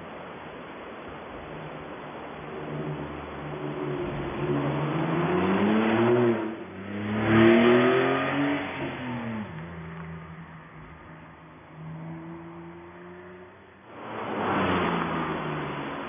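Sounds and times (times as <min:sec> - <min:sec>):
sports car accelerating past: 0:02.5 - 0:16.0.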